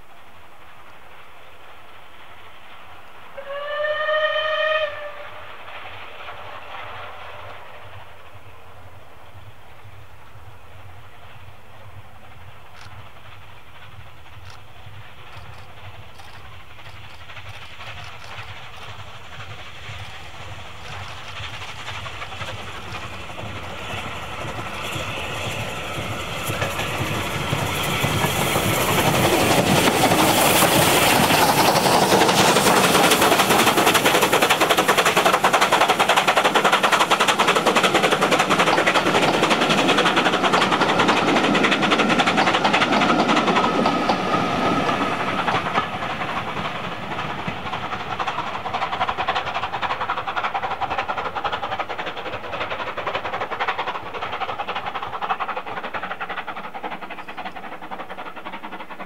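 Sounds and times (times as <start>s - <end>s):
steam locomotive passing: 0.0s - 59.0s
train wheels clattering on rails: 0.0s - 59.0s.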